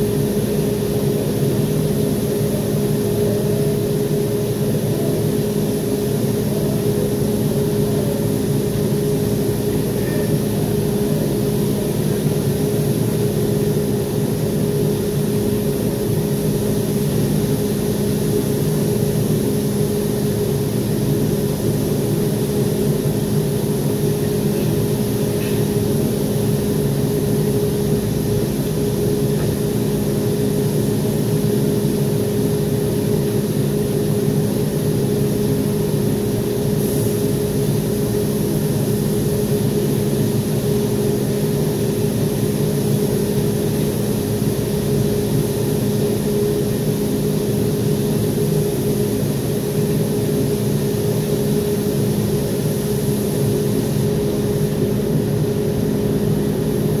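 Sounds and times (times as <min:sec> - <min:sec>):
fan humming: 0:00.0 - 0:57.0.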